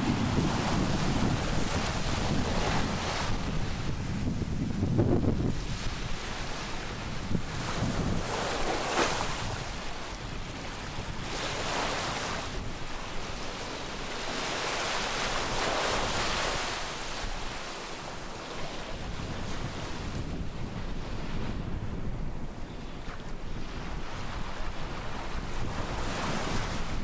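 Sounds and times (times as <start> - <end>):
small waves washing ashore: 0.0 - 27.0
wind buffeting microphone: 0.0 - 27.0.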